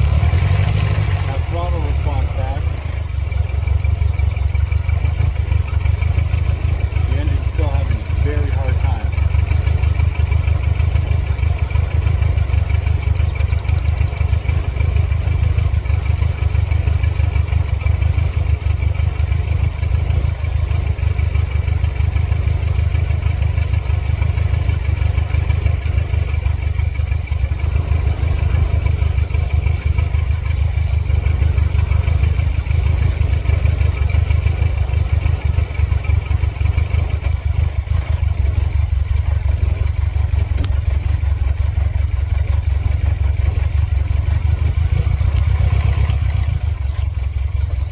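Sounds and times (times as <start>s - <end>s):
car engine idling roughly: 0.0s - 47.9s.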